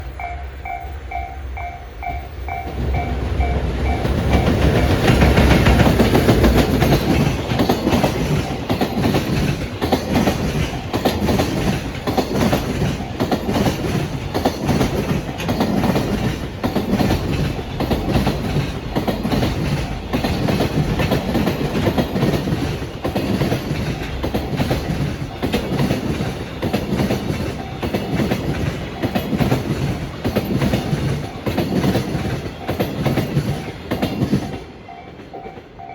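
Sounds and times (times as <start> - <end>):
train wheels clattering over rail joints: 2.5 - 35.8.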